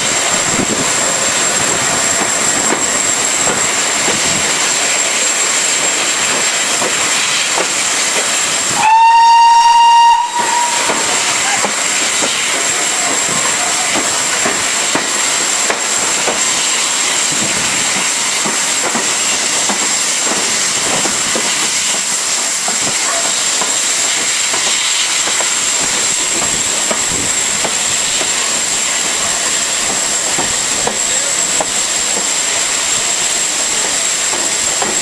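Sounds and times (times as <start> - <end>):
steam hissing and rushing air: 0.0 - 35.0
train wheels clattering on rails: 0.0 - 35.0.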